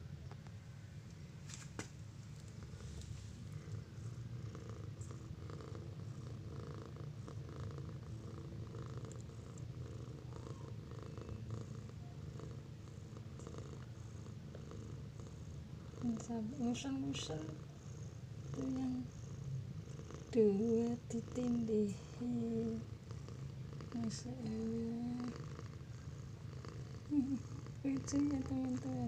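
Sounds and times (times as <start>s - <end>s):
cat and kittens purring: 2.3s - 29.0s.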